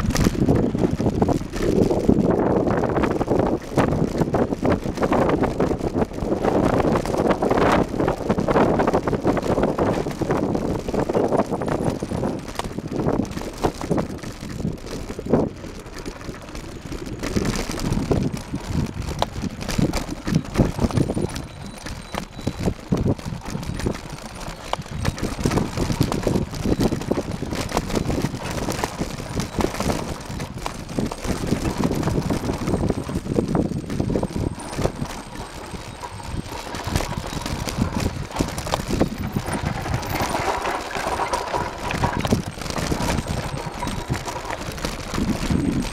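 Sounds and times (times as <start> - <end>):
bike knocks and rattles: 0.0 - 45.9
bike tyres on loose soil: 0.0 - 45.9.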